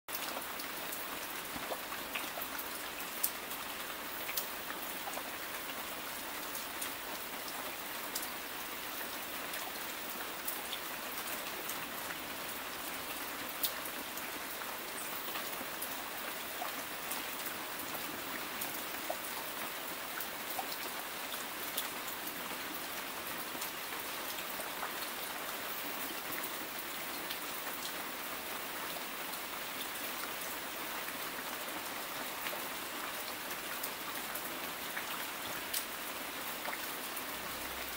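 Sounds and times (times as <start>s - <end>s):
rain falling through foliage: 0.1s - 37.9s
raindrops ticking on leaves: 0.1s - 37.9s.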